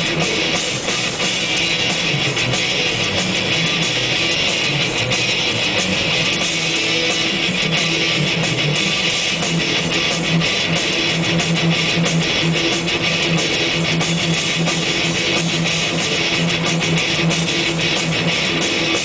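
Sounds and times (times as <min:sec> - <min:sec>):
heavy metal guitar riff: 0:00.0 - 0:19.0.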